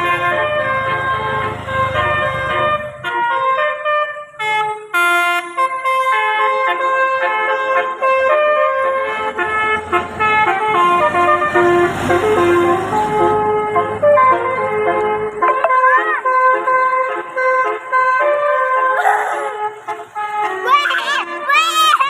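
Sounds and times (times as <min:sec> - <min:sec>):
bus horn playing a tune: 0:00.0 - 0:22.0.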